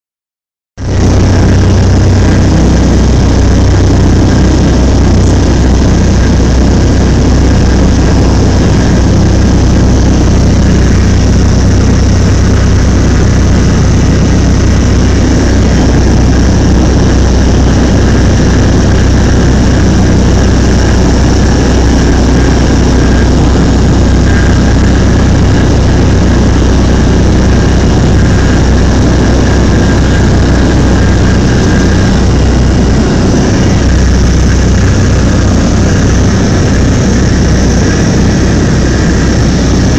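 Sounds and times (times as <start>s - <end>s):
turboprop engine drone: 0.8s - 39.9s.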